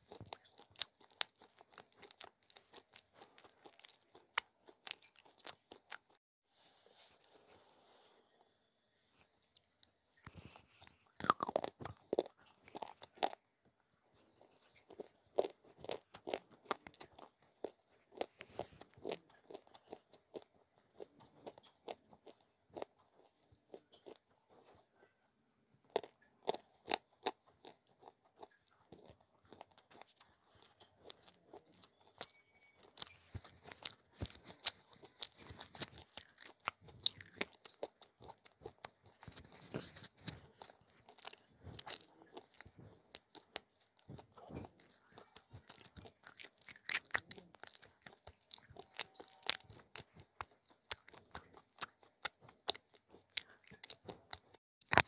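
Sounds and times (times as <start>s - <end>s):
crunching and chewing: 0.0s - 6.2s, 6.8s - 55.0s.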